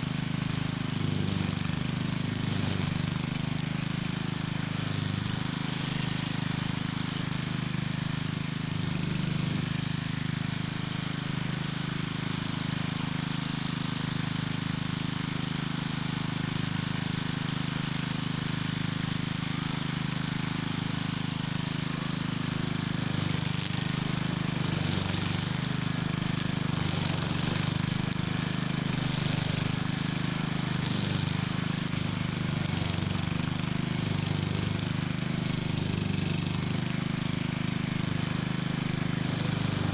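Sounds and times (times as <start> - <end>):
string trimmer engine cutting weeds: 0.0 - 39.9.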